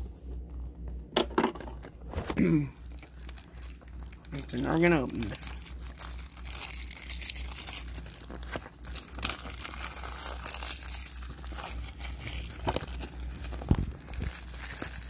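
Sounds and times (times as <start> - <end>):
plastic wrap crinkling and tearing: 1.7 - 15.0.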